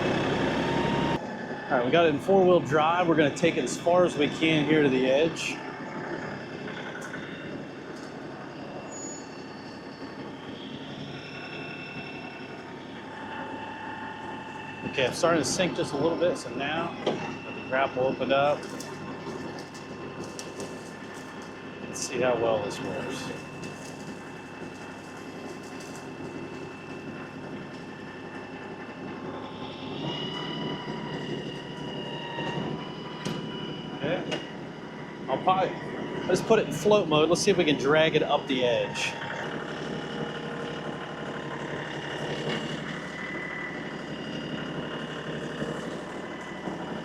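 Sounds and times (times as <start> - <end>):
faint high whine: 0.0 - 47.0
tractor diesel engine running: 0.0 - 47.0.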